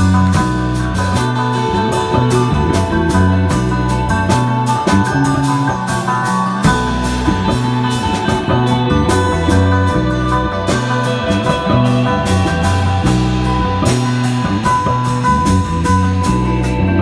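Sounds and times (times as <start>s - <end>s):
drum kit with cymbal strikes: 0.0s - 17.0s
electric bass low notes: 0.0s - 17.0s
guitars playing sustained lines: 0.0s - 17.0s.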